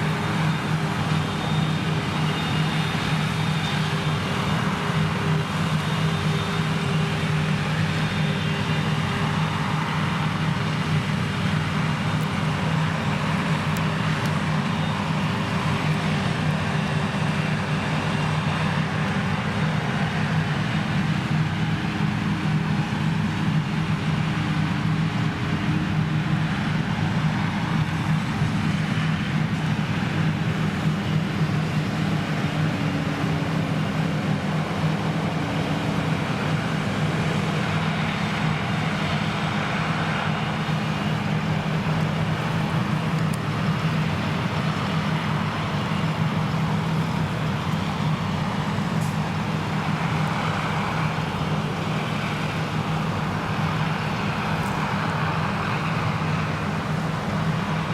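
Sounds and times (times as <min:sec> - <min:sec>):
forage harvester engine hum: 0:00.0 - 0:57.9.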